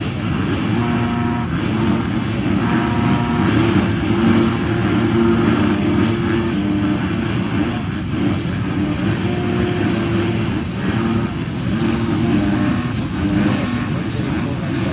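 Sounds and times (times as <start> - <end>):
motocross motorcycle engines: 0.0 - 14.9.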